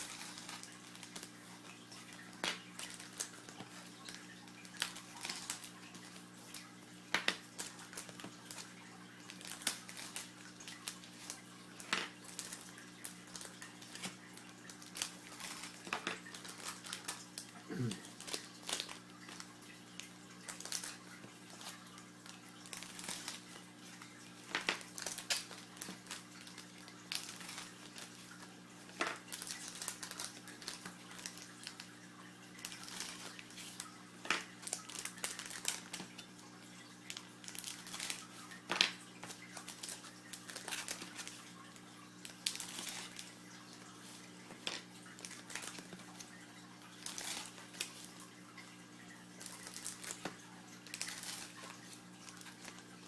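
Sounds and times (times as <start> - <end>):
wrappers crinkling: 0.0 - 53.0.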